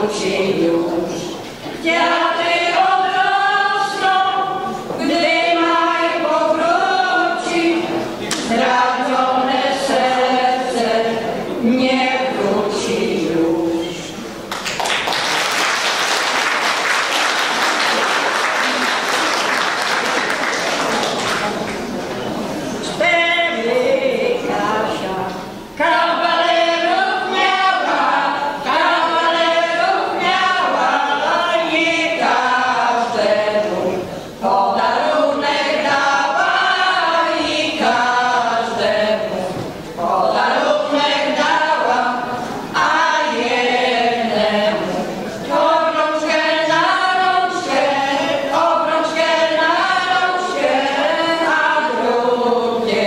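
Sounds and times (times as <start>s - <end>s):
women singing a cappella: 0.0s - 14.3s, 22.8s - 53.0s.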